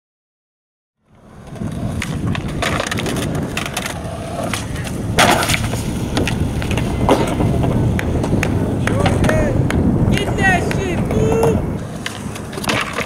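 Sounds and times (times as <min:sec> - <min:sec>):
skateboard rolling over concrete: 0:01.0 - 0:13.0
skateboard clacks: 0:01.2 - 0:13.0.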